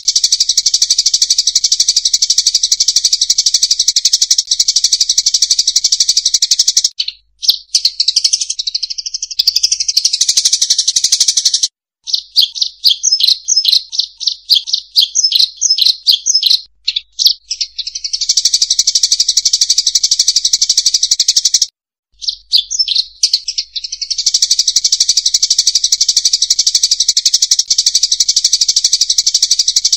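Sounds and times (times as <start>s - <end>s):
bird chirps: 0.0s - 29.9s
short repeated bird notes: 3.8s - 28.2s.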